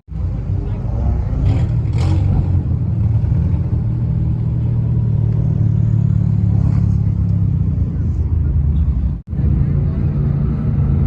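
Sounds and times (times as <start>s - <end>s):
car engine rumbling: 0.1s - 11.0s.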